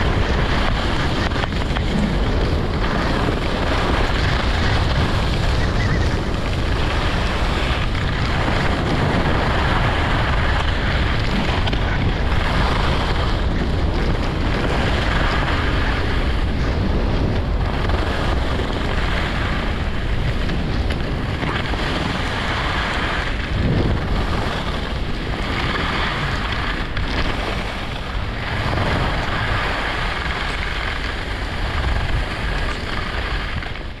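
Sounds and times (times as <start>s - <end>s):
skis carving on snow: 0.0s - 34.0s
wind buffeting microphone: 0.0s - 34.0s.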